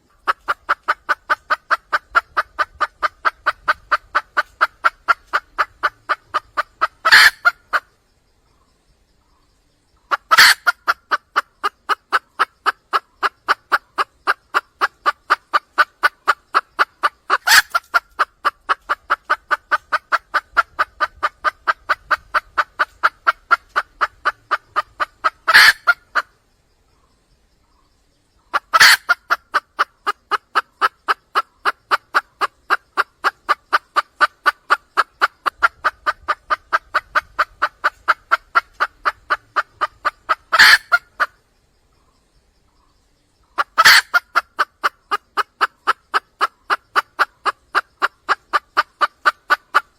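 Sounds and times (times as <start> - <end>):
hen clucking: 0.0 - 8.0, 10.1 - 26.4, 28.5 - 41.4, 43.4 - 49.9.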